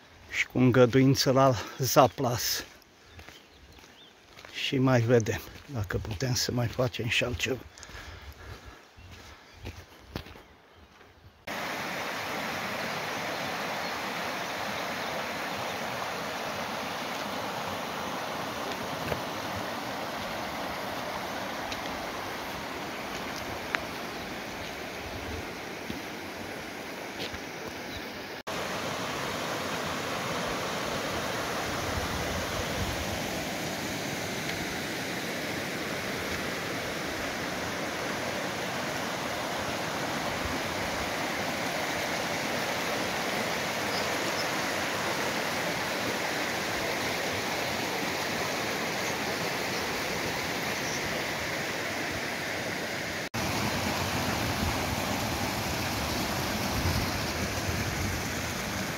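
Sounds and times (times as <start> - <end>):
stream running over stones: 11.4 - 58.9.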